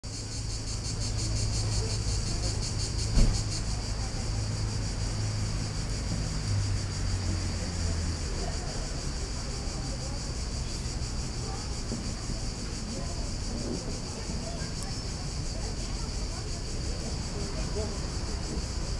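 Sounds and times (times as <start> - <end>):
cicadas singing: 0.0 - 18.9.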